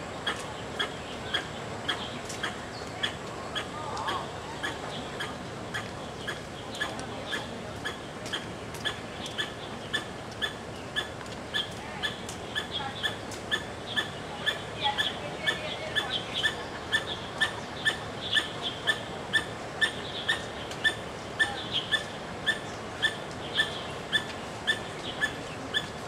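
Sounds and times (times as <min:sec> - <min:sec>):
small animal chirping: 0:00.2 - 0:26.0.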